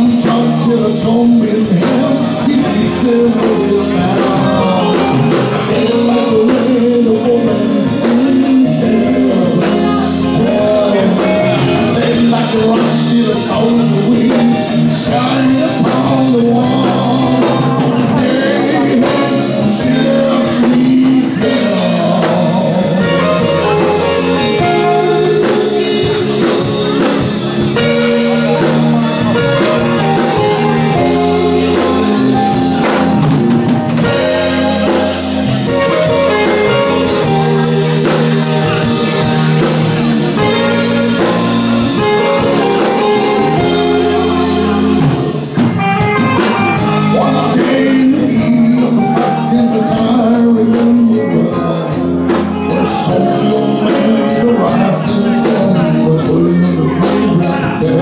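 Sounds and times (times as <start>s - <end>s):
man singing into microphone: 0.0s - 33.3s, 33.9s - 58.0s
band playing drums and guitar: 0.0s - 58.0s.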